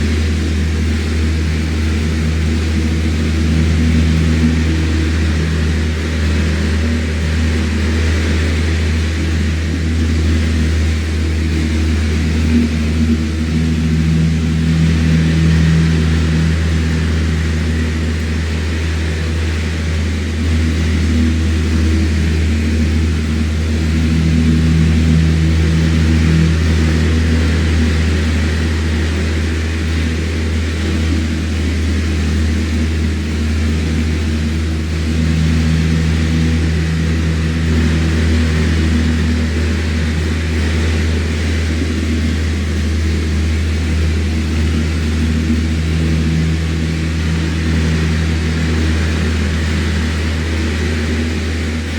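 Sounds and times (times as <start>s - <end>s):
electric fan motor hum: 0.0s - 51.9s
rush of moving air: 0.0s - 51.9s.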